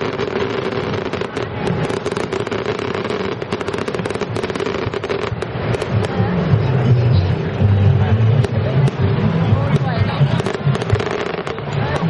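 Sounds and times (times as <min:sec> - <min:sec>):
fireworks crackling and popping: 0:00.0 - 0:06.8, 0:08.3 - 0:12.0.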